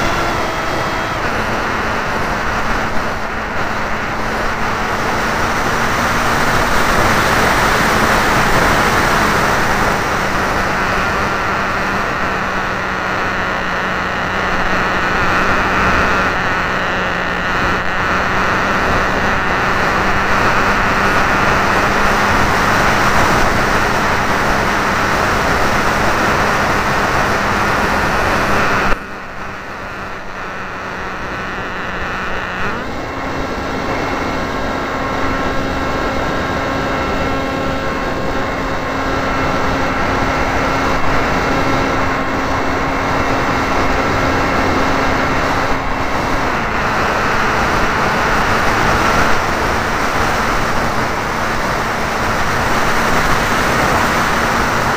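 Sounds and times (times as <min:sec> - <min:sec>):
model airplane motor drone: 0:00.0 - 0:54.9.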